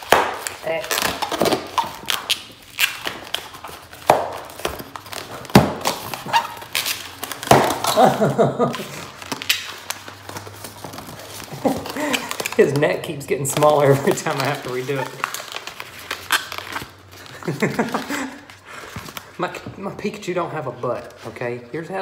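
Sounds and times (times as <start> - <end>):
rubbery balloon squeaks: 0.0 - 19.5.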